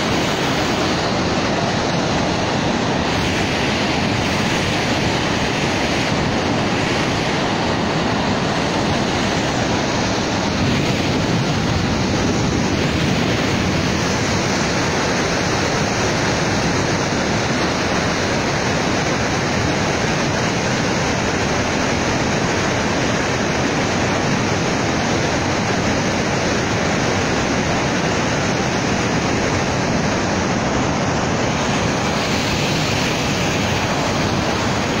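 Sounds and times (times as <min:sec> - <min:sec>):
water rushing through spillway: 0:00.0 - 0:35.0.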